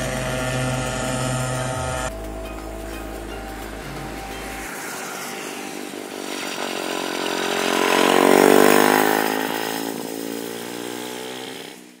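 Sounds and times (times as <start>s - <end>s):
go-kart engine passing by: 0.0s - 12.0s.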